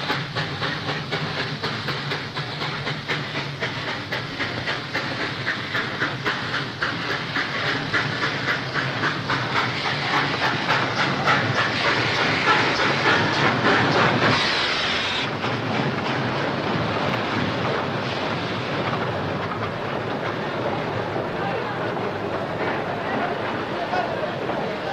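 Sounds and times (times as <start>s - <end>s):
loud hissing steam: 0.0s - 24.9s
steam locomotive chuffing: 0.0s - 24.9s.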